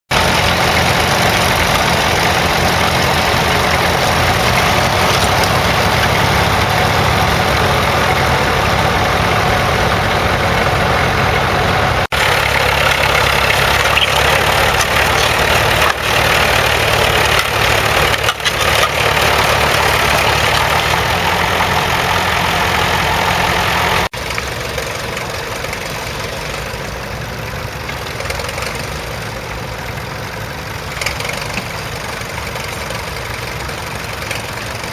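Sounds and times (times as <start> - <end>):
tractor engines humming: 0.1 - 34.9.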